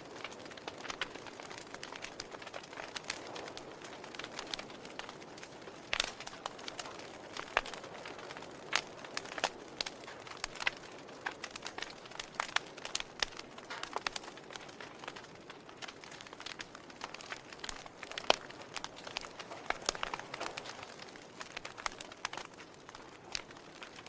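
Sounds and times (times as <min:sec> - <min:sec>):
fire crackling: 0:00.0 - 0:24.0
soft steady hiss: 0:00.0 - 0:24.0.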